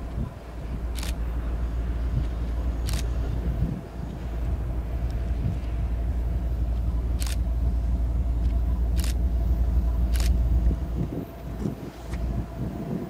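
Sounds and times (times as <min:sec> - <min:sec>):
diesel locomotives rumbling: 0:00.0 - 0:13.0.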